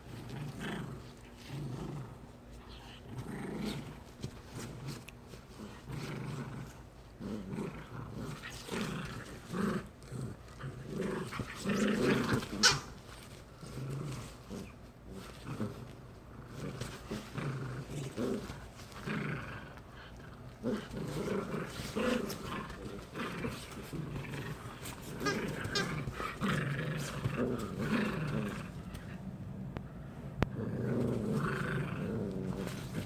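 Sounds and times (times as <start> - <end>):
dogs growling in play: 0.0 - 33.0.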